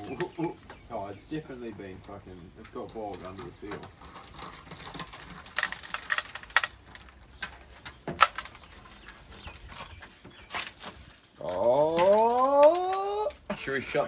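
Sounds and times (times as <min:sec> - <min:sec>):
clicks taps and scrapes: 0:00.0 - 0:14.0.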